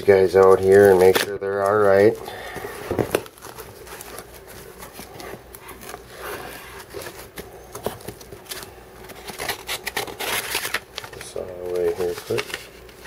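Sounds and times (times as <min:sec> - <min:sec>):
hands handling cardboard box: 0:00.4 - 0:13.0.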